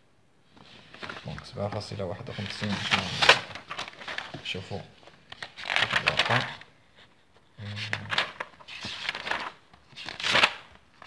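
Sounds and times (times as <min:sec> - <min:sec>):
paper rustling and sliding: 0:00.5 - 0:06.6, 0:07.6 - 0:11.0.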